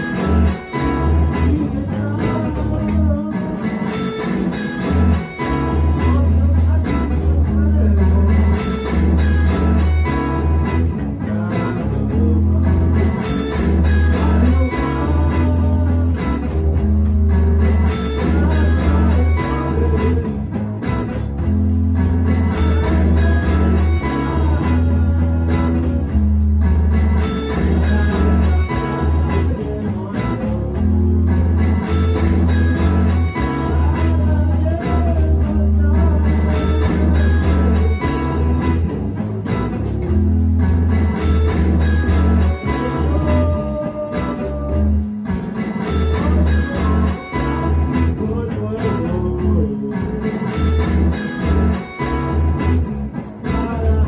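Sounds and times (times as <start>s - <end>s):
electric guitar playing: 0.0s - 54.0s
heavy pulsing bass line: 0.0s - 54.0s.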